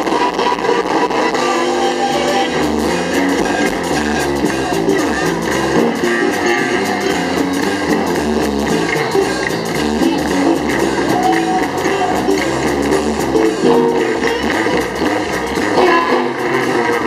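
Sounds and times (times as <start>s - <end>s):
bass line: 0.0s - 17.0s
guitar strumming: 0.0s - 17.0s
steady drumbeat: 0.0s - 17.0s.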